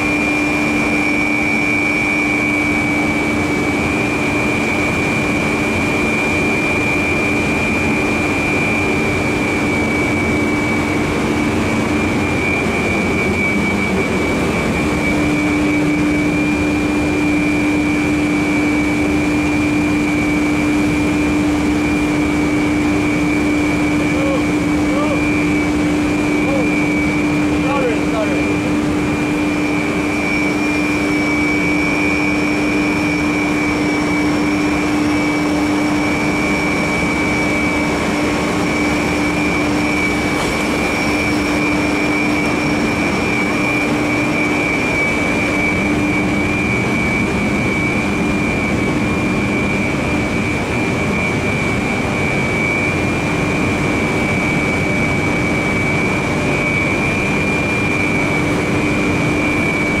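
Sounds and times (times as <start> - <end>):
high whine: 0.0 - 60.0
machinery drone: 0.0 - 60.0.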